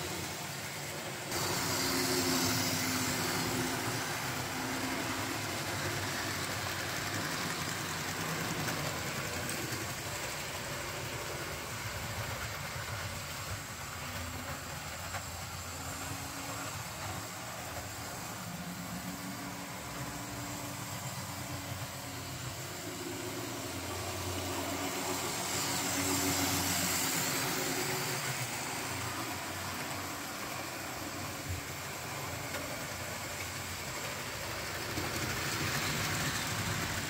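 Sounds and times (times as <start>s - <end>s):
model train running on track: 0.0s - 37.0s.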